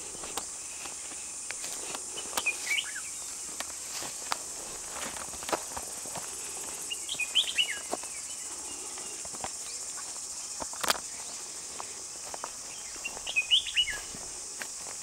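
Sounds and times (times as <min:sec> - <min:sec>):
songbird singing: 0:00.0 - 0:14.5
high insect drone: 0:00.0 - 0:15.0.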